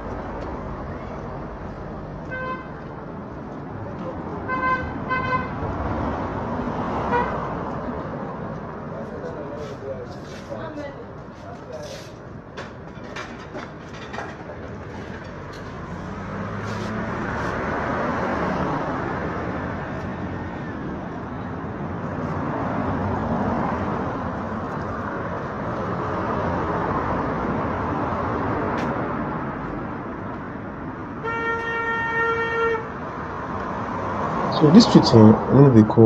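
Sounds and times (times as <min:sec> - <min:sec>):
vehicles passing by: 0:00.0 - 0:36.0.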